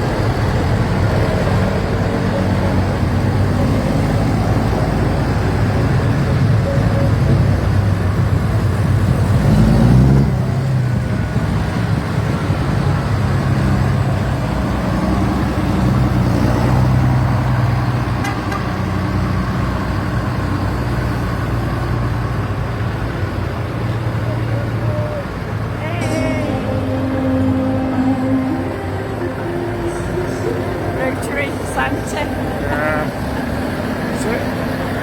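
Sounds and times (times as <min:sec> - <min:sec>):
diesel tractor engine running: 0:00.0 - 0:35.0.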